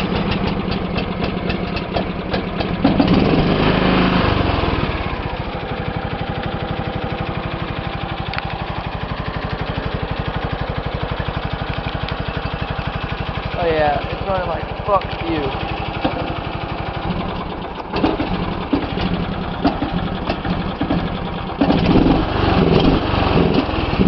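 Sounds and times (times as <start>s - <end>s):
lawn tractor engine starting and idling: 0.0s - 24.0s.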